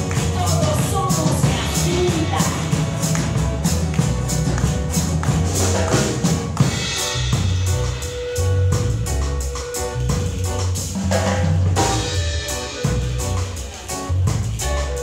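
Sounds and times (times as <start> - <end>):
drum kit beat with cymbals: 0.0 - 15.0
guitars playing: 0.0 - 15.0.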